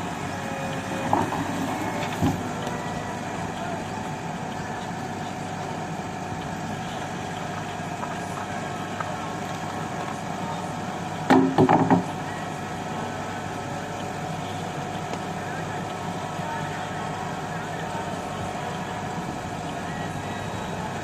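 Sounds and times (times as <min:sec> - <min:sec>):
engine-like drone: 0:00.0 - 0:21.0.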